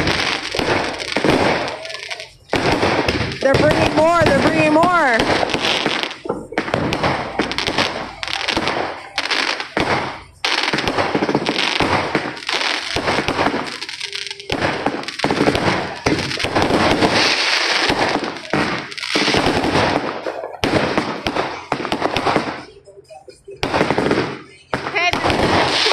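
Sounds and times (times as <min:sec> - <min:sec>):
fireworks and firecrackers banging: 0:00.0 - 0:25.9.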